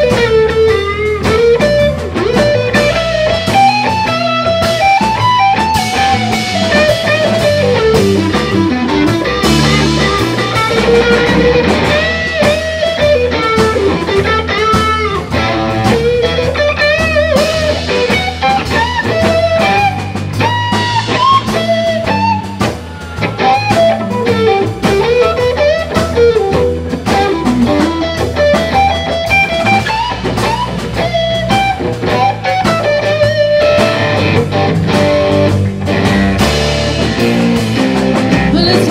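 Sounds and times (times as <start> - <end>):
bass guitar: 0.0 - 38.9
drum kit: 0.0 - 38.9
electric guitar solo: 0.0 - 38.9.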